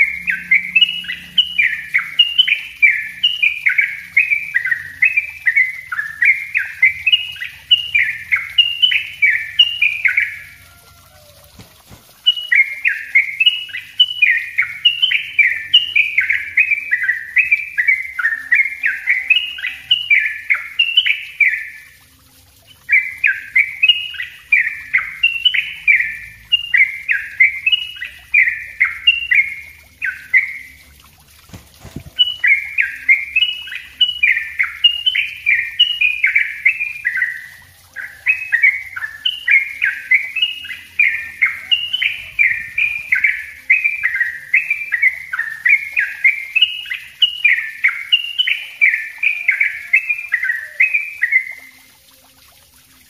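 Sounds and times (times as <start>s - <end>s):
bird singing bubbly chirps: 0.0s - 53.0s.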